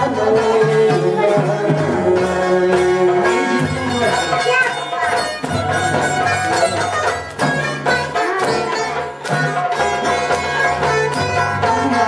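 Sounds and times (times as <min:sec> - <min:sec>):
plucked sitar melody: 0:00.0 - 0:12.0.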